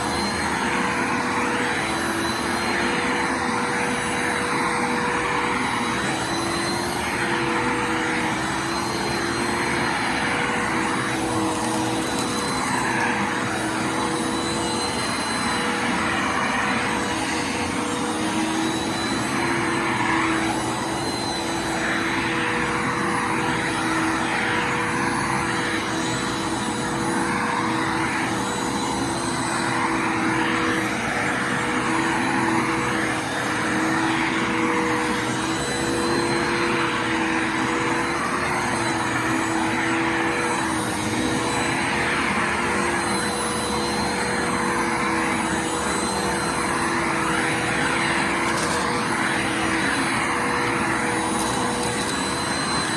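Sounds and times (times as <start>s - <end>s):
vacuum cleaner motor whine: 0.0s - 52.9s.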